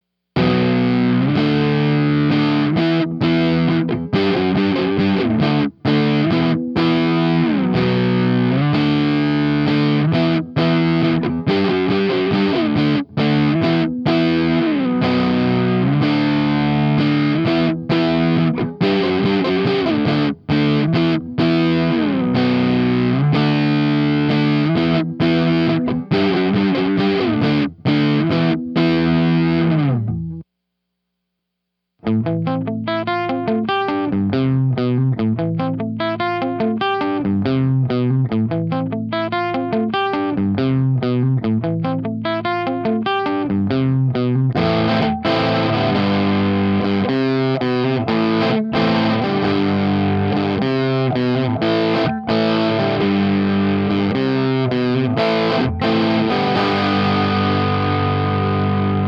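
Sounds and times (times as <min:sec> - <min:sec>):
distorted electric guitar chords: 0:00.4 - 0:30.4, 0:32.0 - 0:59.0.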